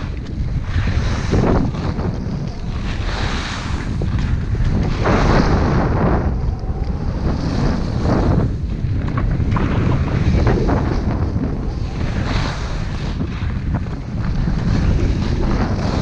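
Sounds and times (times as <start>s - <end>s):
skis carving on snow: 0.0s - 6.4s, 7.1s - 16.0s
wind rushing over microphone: 0.0s - 16.0s.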